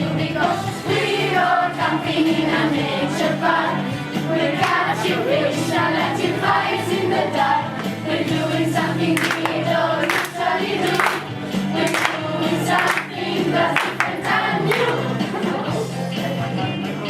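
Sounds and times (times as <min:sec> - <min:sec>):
children's choir singing: 0:00.0 - 0:16.0
backing track with steady beat: 0:00.0 - 0:17.0.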